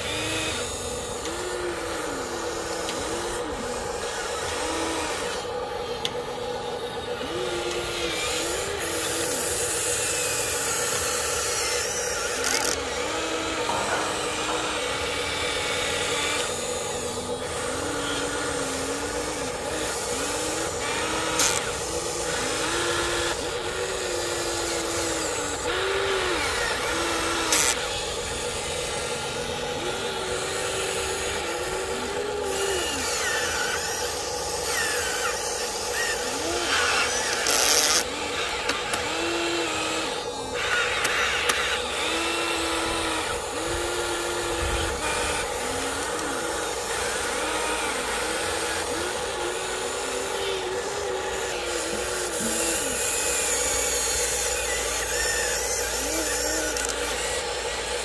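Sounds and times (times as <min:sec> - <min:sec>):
electric motors whining: 0:00.0 - 0:58.0
steady hum: 0:00.0 - 0:58.0.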